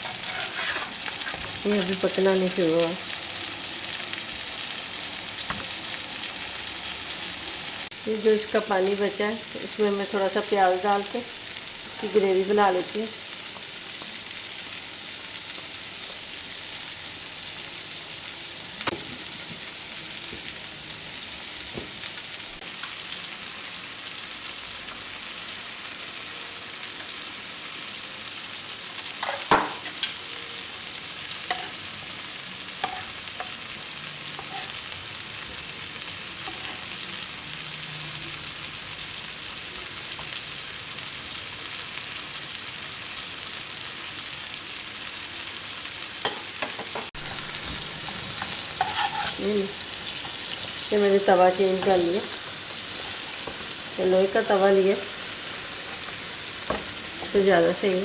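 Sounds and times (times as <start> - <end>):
chicken sizzling on a griddle: 0.0 - 58.0.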